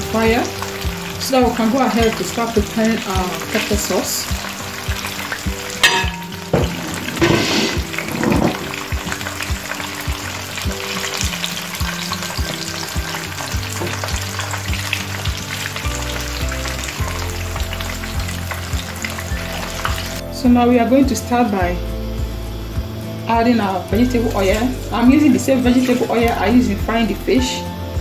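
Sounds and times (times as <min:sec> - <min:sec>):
fish deep-frying in oil: 0:00.0 - 0:21.9, 0:22.5 - 0:28.0.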